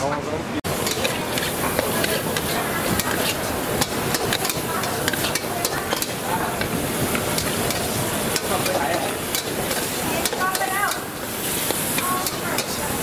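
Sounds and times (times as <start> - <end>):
food sizzling in a pan: 0.7 - 13.0
utensil clicking against pan: 0.8 - 12.8.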